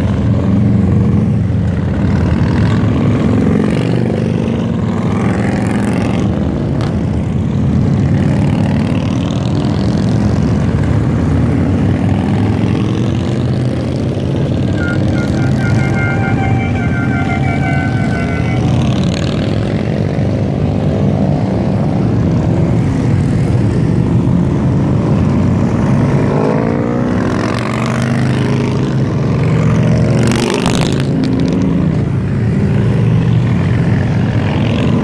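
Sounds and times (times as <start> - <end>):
motorcycles riding past: 0.0 - 35.0.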